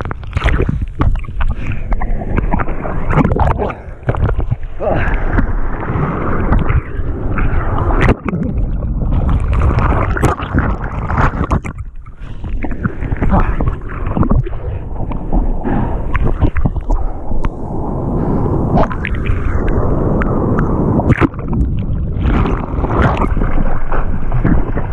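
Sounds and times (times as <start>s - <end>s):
water splashing against camera: 0.0s - 24.9s.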